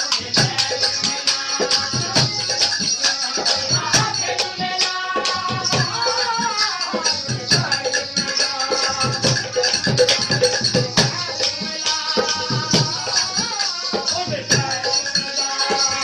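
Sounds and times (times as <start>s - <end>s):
tabla beat: 0.0s - 16.0s.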